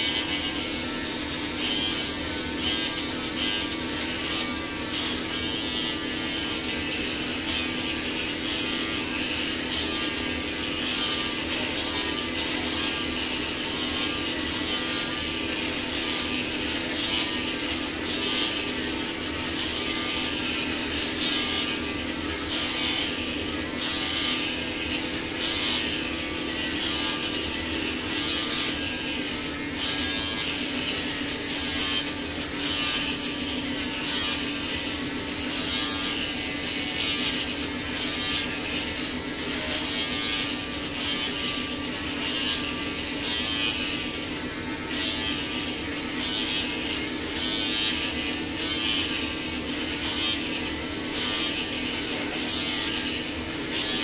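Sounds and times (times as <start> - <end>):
clippers rasping through hair: 0.0 - 54.0
electric hair clippers running: 0.0 - 54.0.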